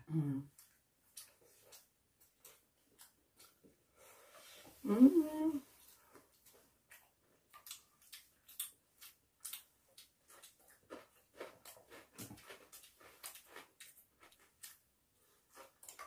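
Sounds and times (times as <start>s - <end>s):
people chewing: 0.5s - 5.1s, 5.7s - 16.0s.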